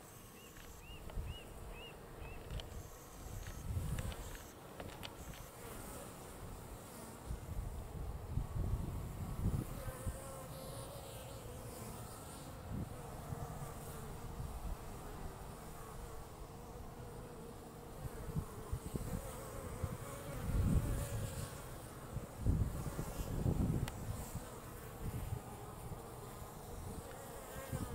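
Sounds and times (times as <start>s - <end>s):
honeybees buzzing: 0.0s - 27.9s.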